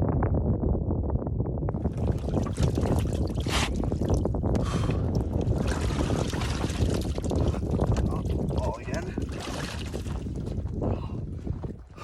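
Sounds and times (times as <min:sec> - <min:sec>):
wind buffeting microphone: 0:00.0 - 0:12.0
water sloshing and splashing: 0:01.8 - 0:12.0.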